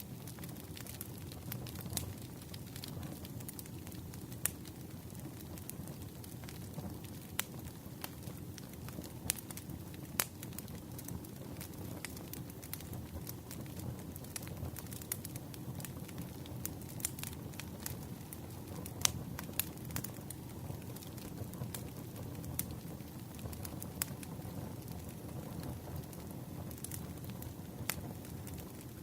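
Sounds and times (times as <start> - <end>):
campfire flames rumbling: 0.0 - 29.0
wood crackling and popping: 0.0 - 29.0.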